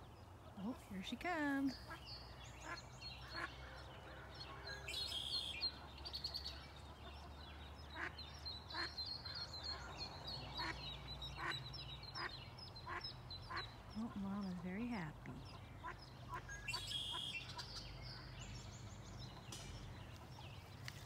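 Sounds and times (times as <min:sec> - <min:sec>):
ducklings peeping: 0:00.1 - 0:21.0.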